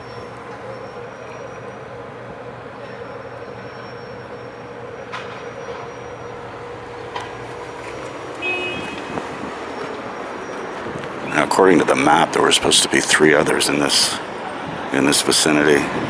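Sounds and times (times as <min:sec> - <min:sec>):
city street traffic: 0:00.0 - 0:16.0
vehicle engine hum: 0:00.0 - 0:16.0.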